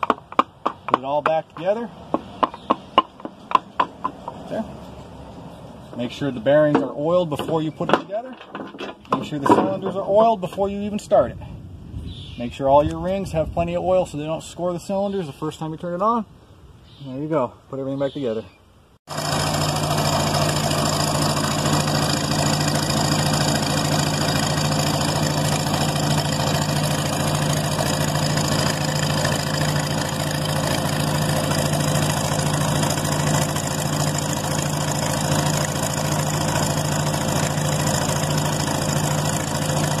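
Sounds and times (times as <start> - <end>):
tractor engine running: 0.0 - 11.1, 19.1 - 40.0.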